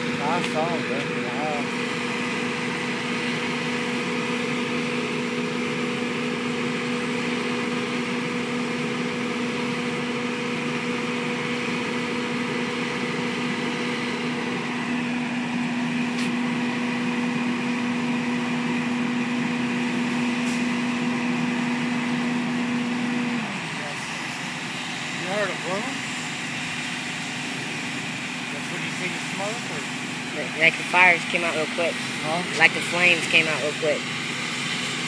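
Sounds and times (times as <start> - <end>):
machine drone with low hum: 0.0 - 35.0.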